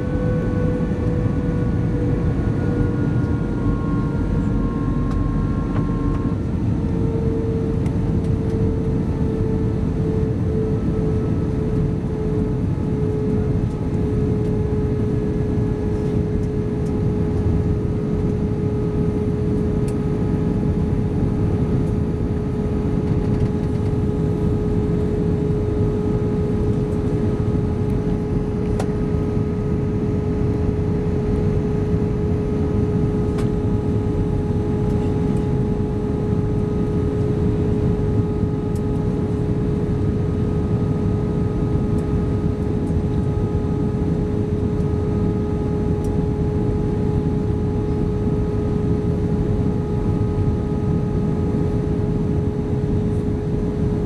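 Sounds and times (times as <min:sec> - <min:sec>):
jet engine drone: 0:00.0 - 0:54.0
mid-pitched hum: 0:00.0 - 0:54.0.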